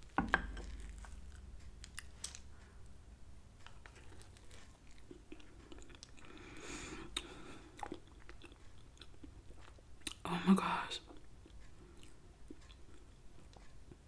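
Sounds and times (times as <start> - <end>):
faint chewing: 0.0 - 2.9, 3.6 - 14.0.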